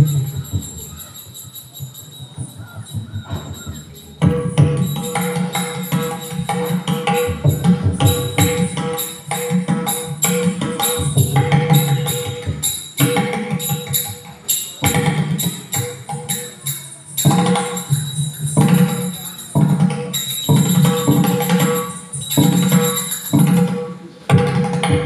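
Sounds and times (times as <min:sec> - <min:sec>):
drum strokes: 0:00.0 - 0:25.0
hand cymbals ringing: 0:00.0 - 0:25.0.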